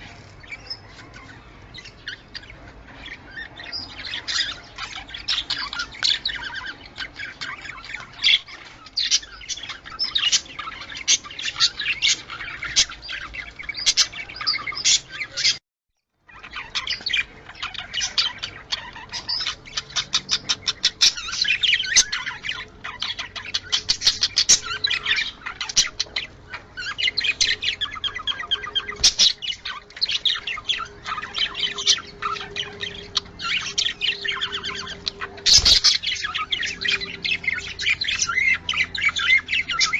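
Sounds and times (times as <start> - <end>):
budgerigars chattering: 0.0 - 15.6, 16.3 - 39.9.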